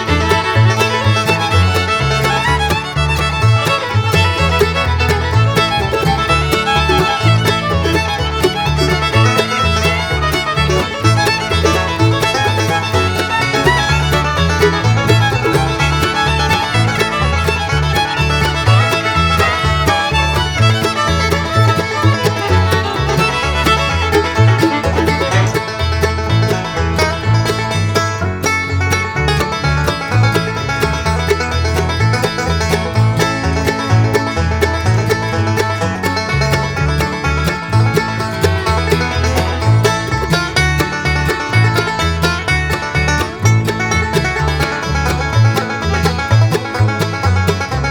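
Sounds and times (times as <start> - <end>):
fast bluegrass tune: 0.0 - 47.9.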